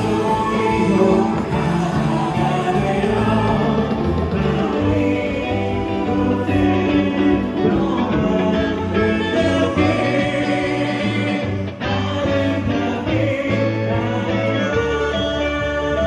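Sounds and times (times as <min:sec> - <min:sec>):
live band playing worship song: 0:00.0 - 0:16.0.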